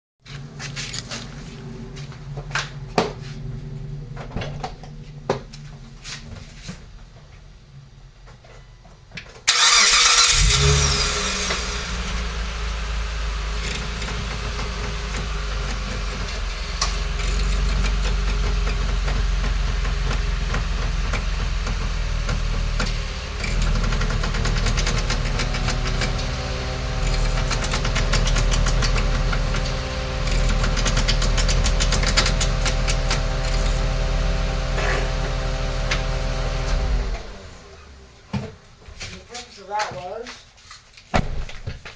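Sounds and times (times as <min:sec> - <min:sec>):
car engine running: 0:00.3 - 0:38.7.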